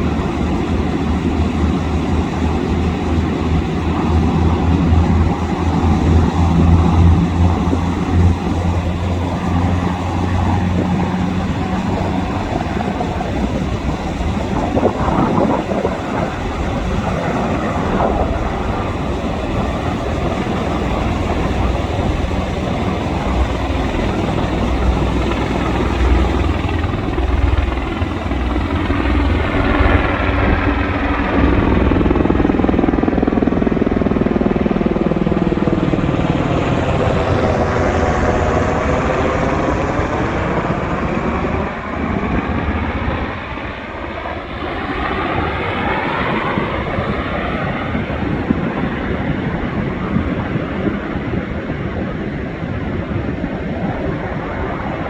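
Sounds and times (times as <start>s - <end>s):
helicopters flying overhead: 0.0s - 55.0s.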